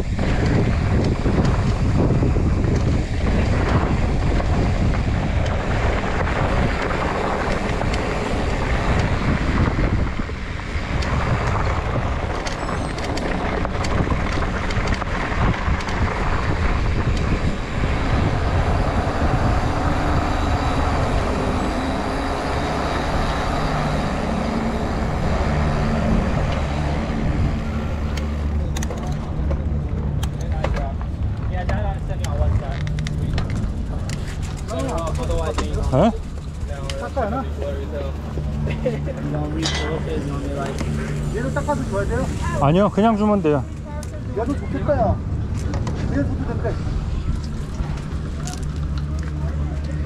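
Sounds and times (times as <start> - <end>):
bike rattling and clicking: 0.0 - 50.0
wind rushing over microphone: 0.0 - 50.0.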